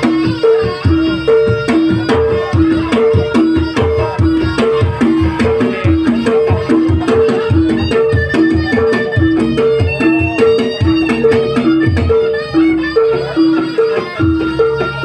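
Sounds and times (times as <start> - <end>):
hand drum strokes: 0.0 - 15.0
tuned percussion two-note figure: 0.0 - 15.0.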